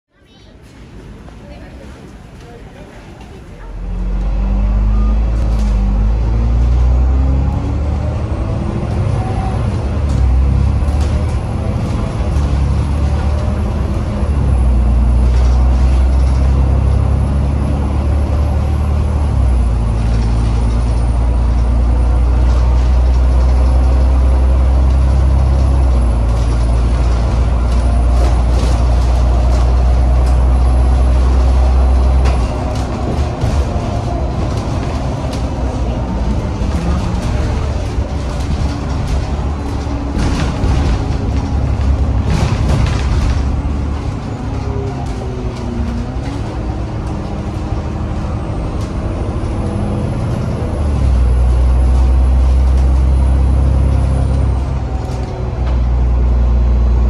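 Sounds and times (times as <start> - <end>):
bus diesel engine rumbling: 0.1 - 57.0.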